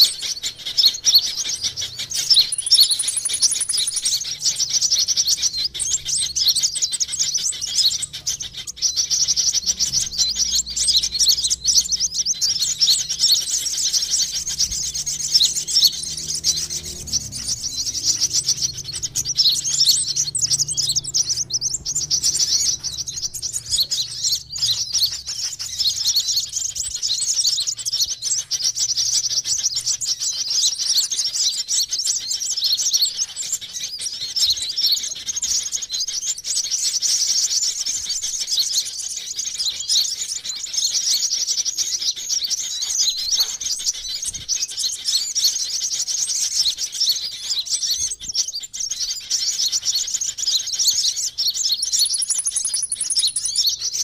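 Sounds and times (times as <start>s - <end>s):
rapid high-pitched bird chirps: 0.0s - 54.0s.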